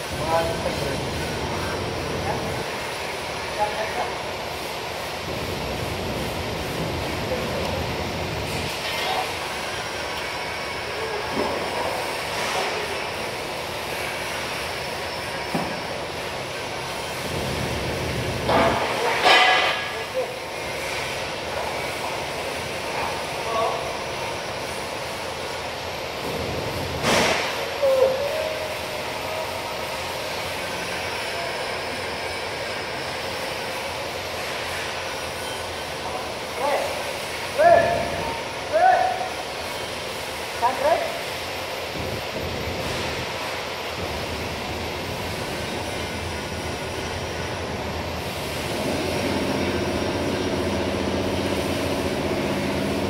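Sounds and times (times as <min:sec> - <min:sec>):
steady machine noise: 0:00.0 - 0:53.0.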